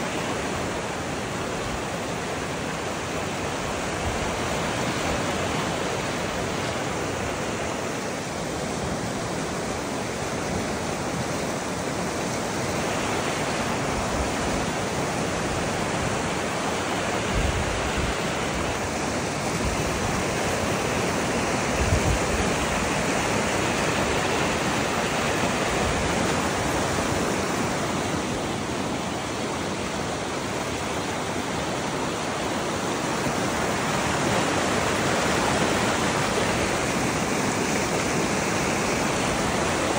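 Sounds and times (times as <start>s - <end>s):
roar of rushing stream: 0.0s - 39.9s.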